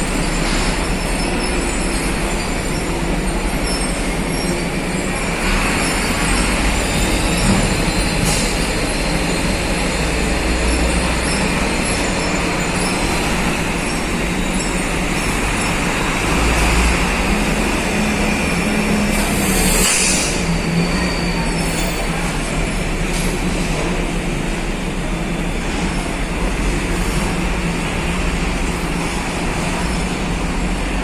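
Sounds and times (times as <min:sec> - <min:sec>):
rumble of vehicles and machinery: 0:00.0 - 0:31.0.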